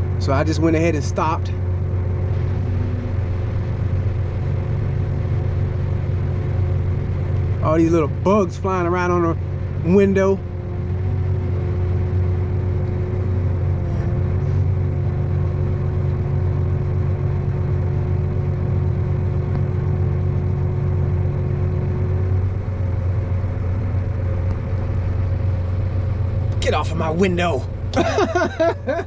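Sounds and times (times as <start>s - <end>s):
harvesting machine engine running: 0.0s - 29.0s.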